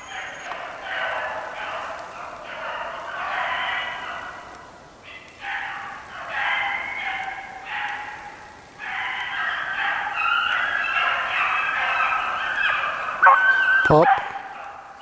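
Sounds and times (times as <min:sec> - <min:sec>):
hounds baying: 0:00.0 - 0:15.0.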